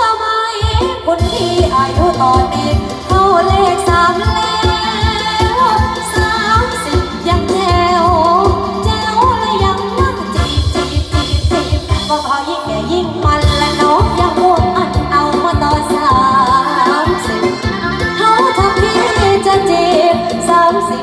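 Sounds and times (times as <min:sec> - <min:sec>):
music with singing voice: 0:00.0 - 0:21.0
steady beat: 0:01.2 - 0:12.2, 0:13.4 - 0:20.4.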